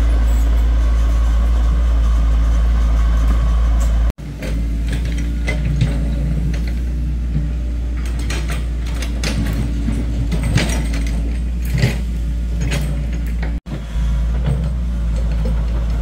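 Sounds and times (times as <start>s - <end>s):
excavator diesel engine rumbling: 0.0s - 16.0s.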